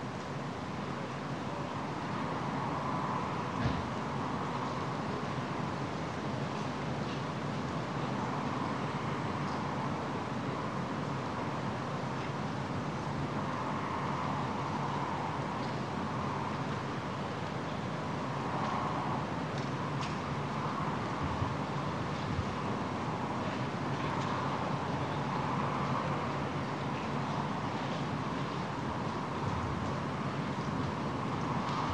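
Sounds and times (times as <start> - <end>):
vehicle rumble and hiss: 0.0 - 31.9.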